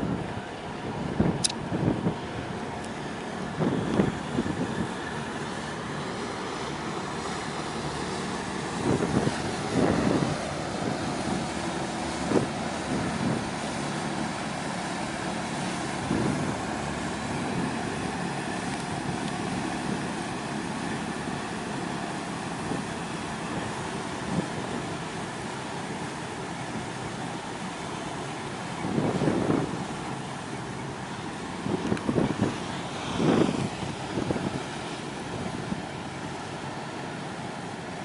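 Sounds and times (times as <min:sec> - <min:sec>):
tug diesel engine drone: 0:00.0 - 0:38.0.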